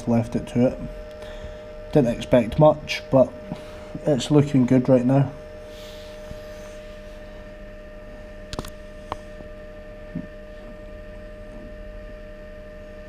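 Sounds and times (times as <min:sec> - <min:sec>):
incubator electrical hum: 0:00.0 - 0:13.0.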